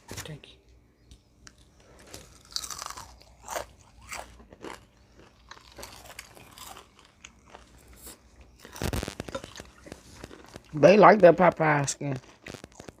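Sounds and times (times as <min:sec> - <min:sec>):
chewing crispy chicken skin: 0:01.5 - 0:13.0.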